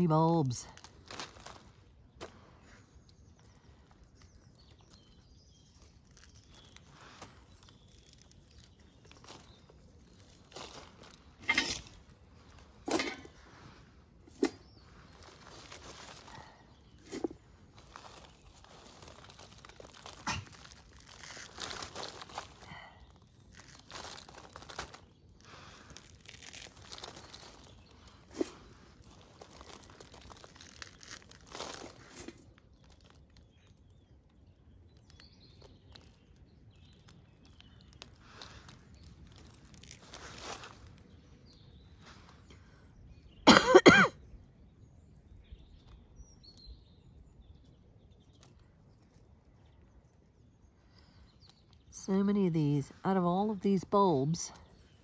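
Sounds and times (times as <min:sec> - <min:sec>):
roots tearing: 0:00.0 - 0:43.6, 0:44.8 - 0:55.0
soil rustling and crumbling: 0:00.0 - 0:43.6, 0:44.2 - 0:55.0.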